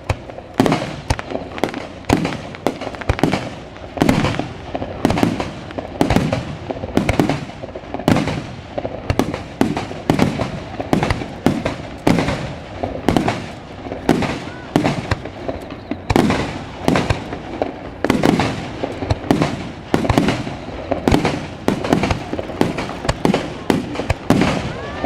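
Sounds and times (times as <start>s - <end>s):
fireworks bursting with echo: 0.0s - 25.0s.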